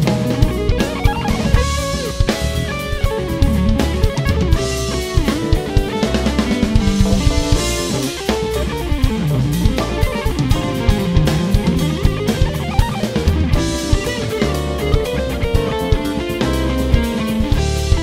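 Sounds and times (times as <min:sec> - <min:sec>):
band track with guitar: 0:00.0 - 0:18.0
drum kit on snare and cymbals: 0:00.0 - 0:18.0.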